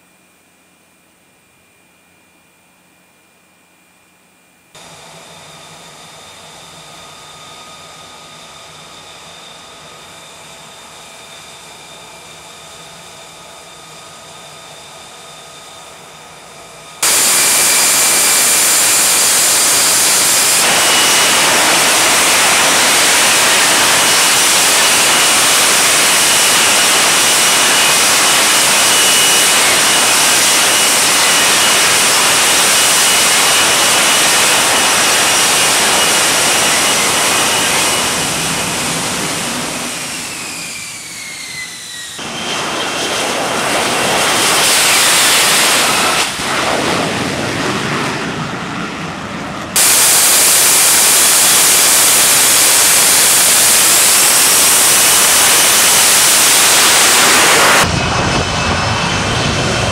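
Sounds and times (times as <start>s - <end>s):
jet engine whine and roar: 4.4s - 59.9s.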